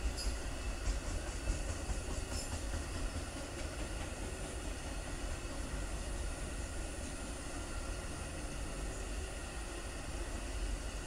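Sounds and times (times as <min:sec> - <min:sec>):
train cars rumbling on rails: 0:00.0 - 0:11.0.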